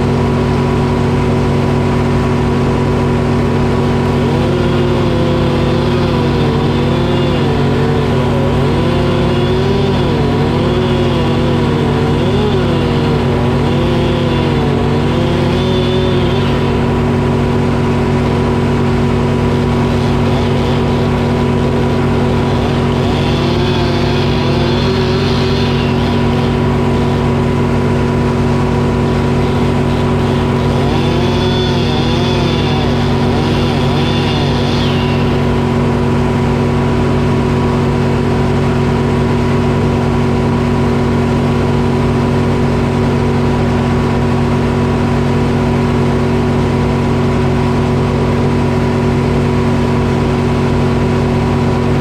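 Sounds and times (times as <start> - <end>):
diesel engine running: 0.0 - 52.0
saw whining through log: 0.0 - 52.0.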